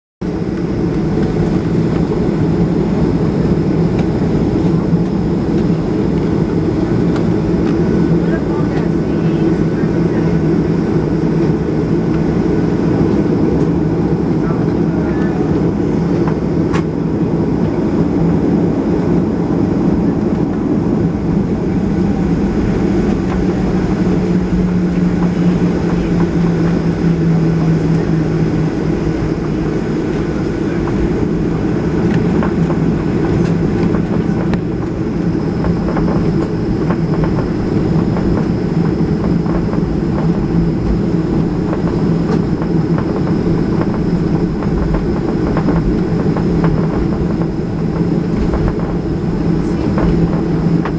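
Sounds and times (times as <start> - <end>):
jet engines rumbling: 0.2 - 50.9.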